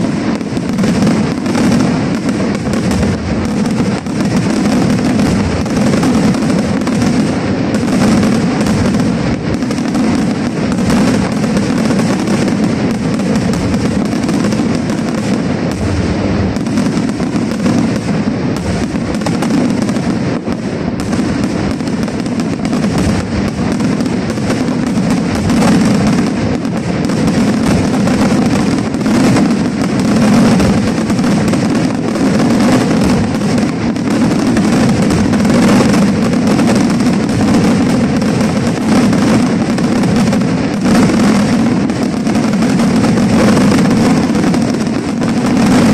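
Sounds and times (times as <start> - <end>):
fireworks bursting and crackling: 0.0 - 45.9.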